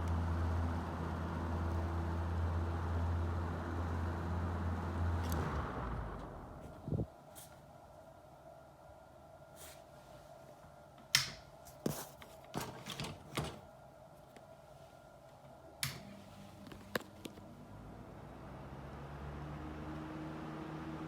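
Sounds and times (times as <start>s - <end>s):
low fan whir: 0.0s - 21.0s.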